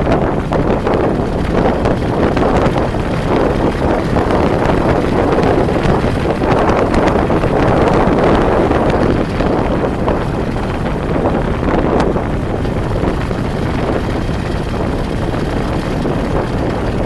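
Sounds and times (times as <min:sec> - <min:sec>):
vehicle and road noise: 0:00.0 - 0:17.0
wind buffeting microphone: 0:00.0 - 0:17.0.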